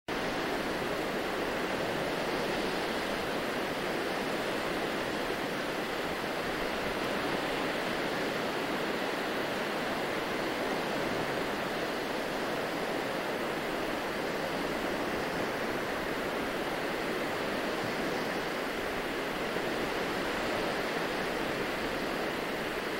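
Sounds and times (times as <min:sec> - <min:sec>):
small waves washing on sand: 0:00.1 - 0:22.9.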